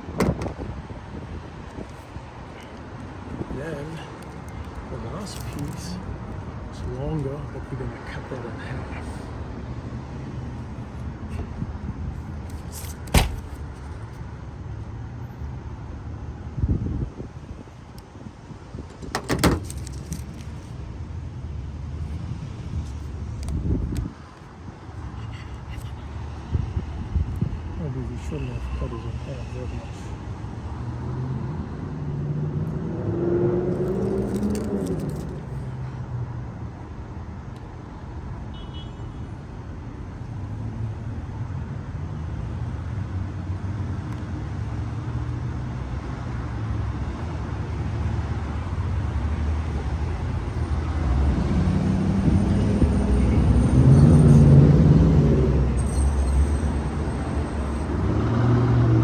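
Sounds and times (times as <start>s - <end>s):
road traffic rumbling: 0.0s - 38.4s, 39.3s - 59.0s.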